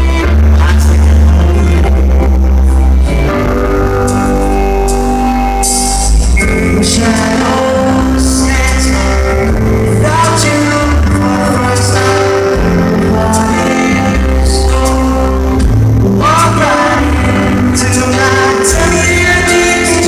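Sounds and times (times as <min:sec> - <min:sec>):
band with guitar and bass: 0:00.0 - 0:20.0
man singing pop ballad: 0:00.0 - 0:20.0.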